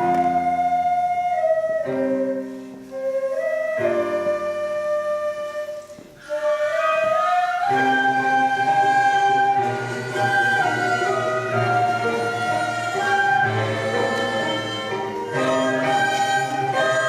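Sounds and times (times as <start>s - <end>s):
traditional music ensemble: 0.0s - 17.0s.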